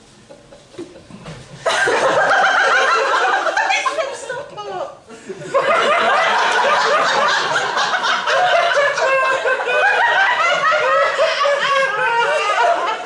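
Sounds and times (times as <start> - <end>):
audience laughing: 0.4 - 4.5, 5.2 - 13.0.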